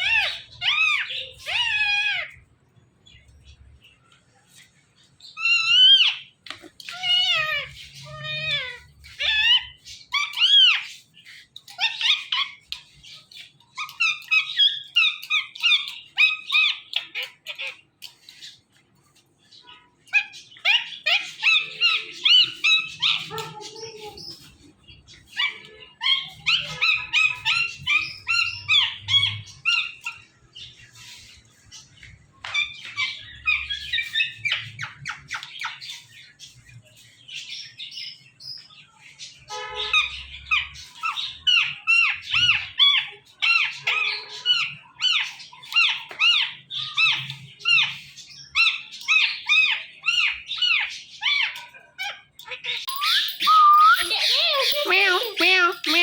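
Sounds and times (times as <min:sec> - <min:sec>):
parakeet chattering and squawking: 0:00.0 - 0:18.8, 0:19.4 - 0:56.0.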